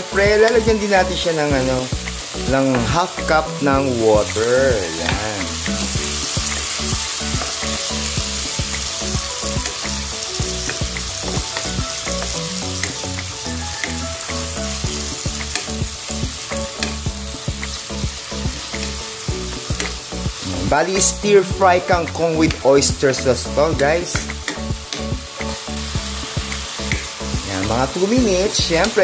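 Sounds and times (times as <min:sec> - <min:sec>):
vegetables sizzling in a wok: 0:00.0 - 0:29.0.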